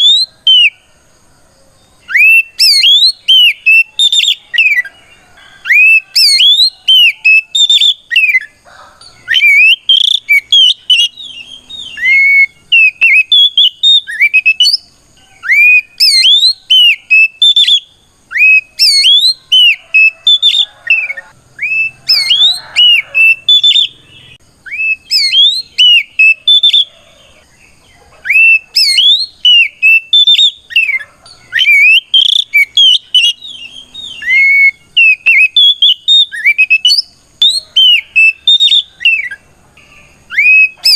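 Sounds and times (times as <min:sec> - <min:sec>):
bird singing whistled notes: 0:00.0 - 0:00.8, 0:01.8 - 0:40.9.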